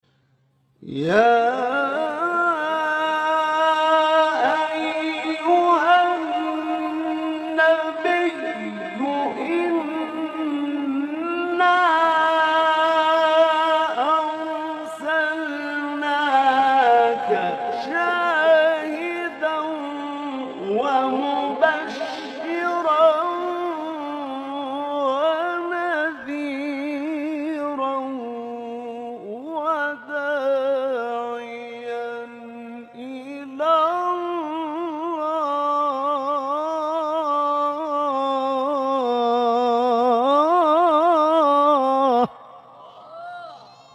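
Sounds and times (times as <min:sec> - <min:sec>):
man chanting melodically: 0:00.8 - 0:42.7.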